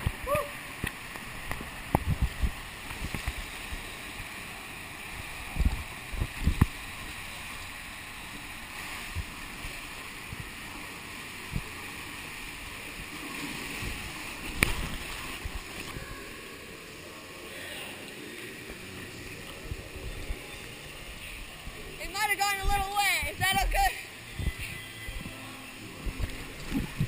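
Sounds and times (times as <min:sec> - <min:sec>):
water rushing through tube: 0:00.0 - 0:22.1.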